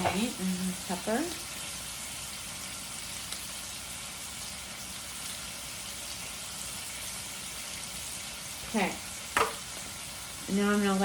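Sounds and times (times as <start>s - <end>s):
steaks sizzling in a pan: 0.0s - 11.0s.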